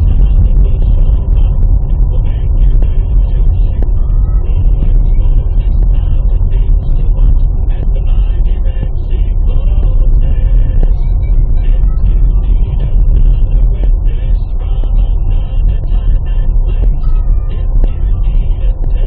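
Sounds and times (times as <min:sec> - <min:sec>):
engine and tyre rumble: 0:00.0 - 0:19.0
voice from car radio: 0:00.0 - 0:19.0.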